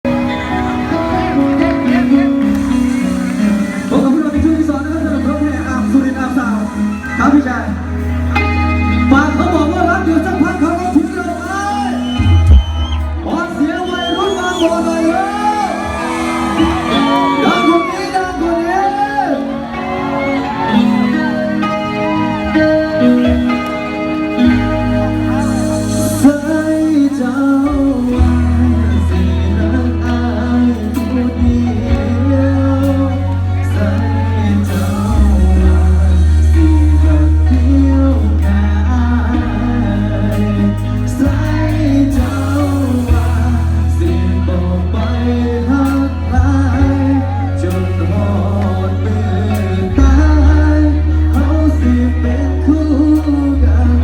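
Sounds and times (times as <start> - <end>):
heavy bass notes: 0.0 - 18.9, 20.6 - 54.0
live band music: 0.0 - 54.0
person singing: 8.4 - 54.0.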